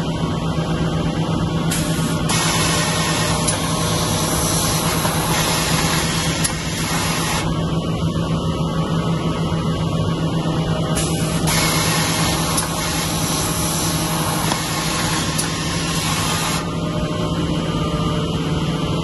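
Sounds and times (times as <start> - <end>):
sewing machines droning: 0.0 - 8.6, 11.0 - 18.0.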